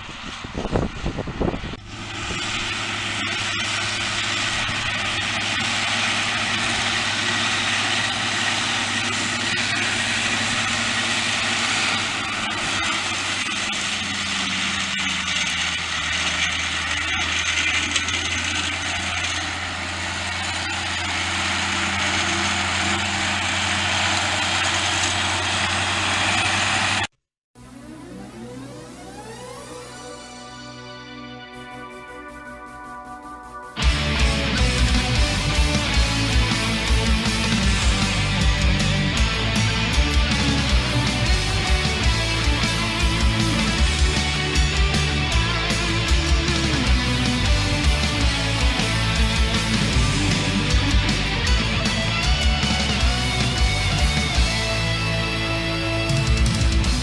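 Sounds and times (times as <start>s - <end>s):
diesel engine hum: 0.0s - 32.9s, 33.8s - 57.0s.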